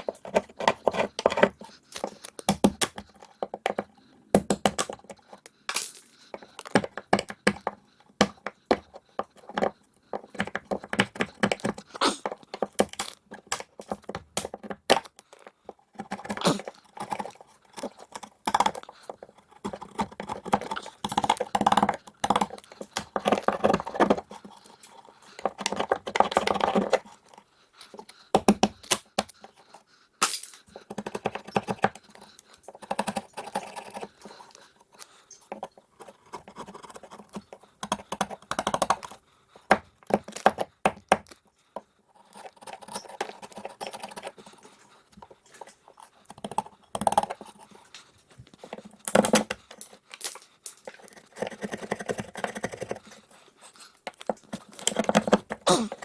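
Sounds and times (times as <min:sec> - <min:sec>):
carpentry clicks knocks and scrapes: 0:00.0 - 0:56.0.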